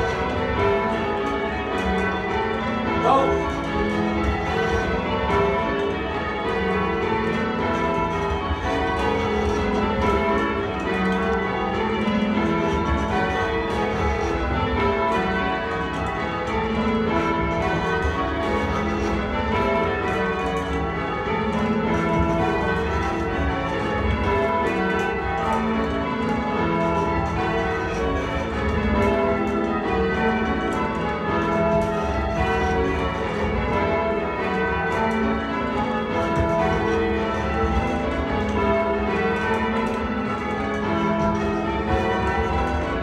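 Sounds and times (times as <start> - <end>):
church bells change ringing: 0.0 - 43.0.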